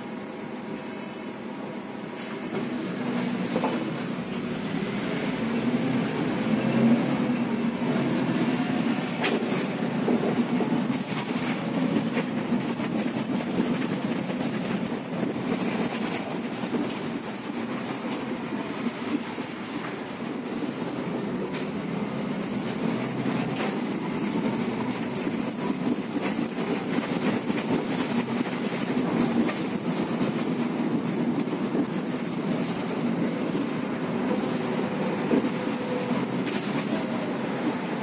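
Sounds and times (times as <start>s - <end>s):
bus running noise: 0.0s - 38.0s.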